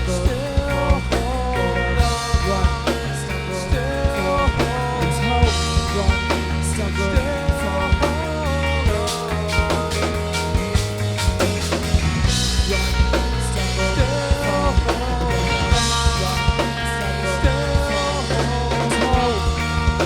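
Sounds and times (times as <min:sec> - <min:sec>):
drum kit: 0:00.0 - 0:20.0
steady bass: 0:00.0 - 0:20.0.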